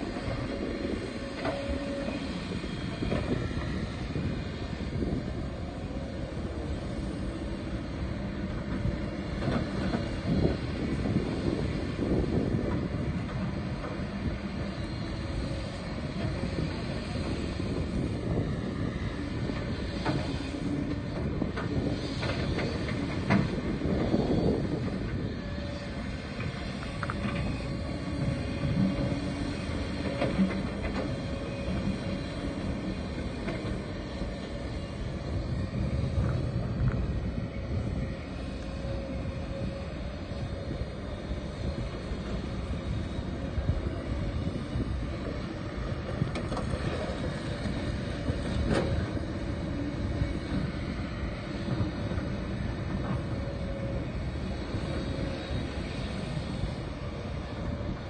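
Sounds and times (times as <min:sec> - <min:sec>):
excavator engine and hydraulics: 0:00.0 - 0:58.0.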